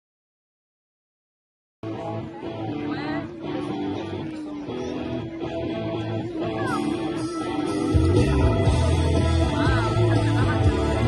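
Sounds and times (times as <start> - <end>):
guitar-led country music: 1.8 - 11.0.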